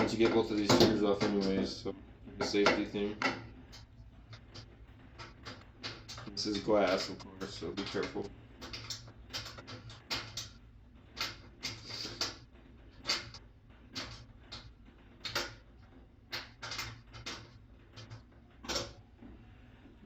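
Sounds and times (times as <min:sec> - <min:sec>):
tool and metal parts clicking: 0:02.4 - 0:12.4, 0:13.0 - 0:19.0.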